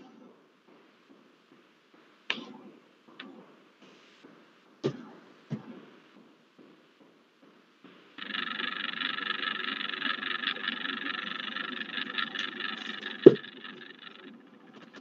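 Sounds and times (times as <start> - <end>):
crackling buzzing noise: 0.6 - 15.0.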